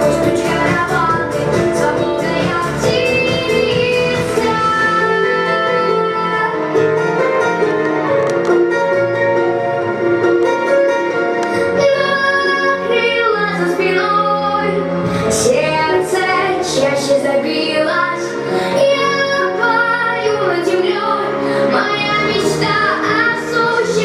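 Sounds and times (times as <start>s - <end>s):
instrumental accompaniment: 0.0s - 24.0s.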